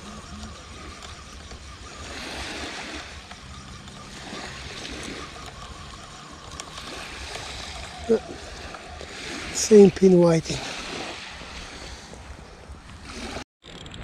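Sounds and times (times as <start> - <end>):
waves washing on shingle: 0.0 - 13.4.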